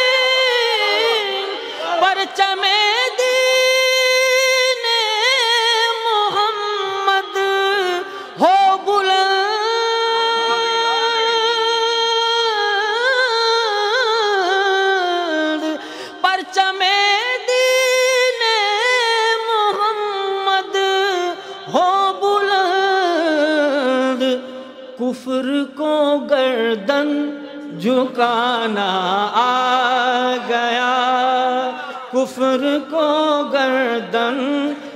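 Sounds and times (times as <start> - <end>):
man singing unaccompanied: 0.0 - 34.9.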